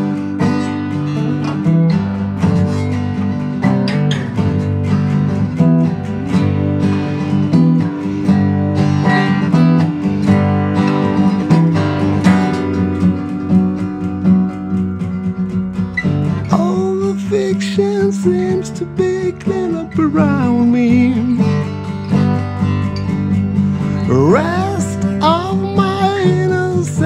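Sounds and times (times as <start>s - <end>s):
acoustic guitar plucked and strummed: 0.0s - 27.0s.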